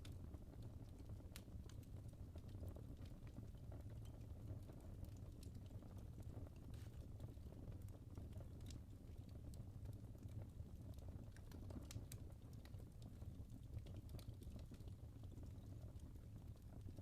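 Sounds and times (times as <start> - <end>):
logs crackling and popping: 0.0 - 17.0
wood fire burning: 0.0 - 17.0.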